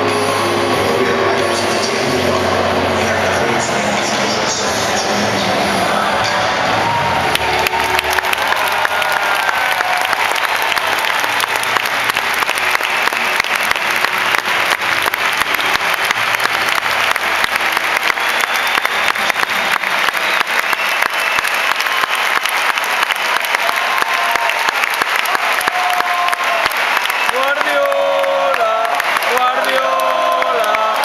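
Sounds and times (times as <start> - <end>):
crowd applauding: 0.0 - 31.0.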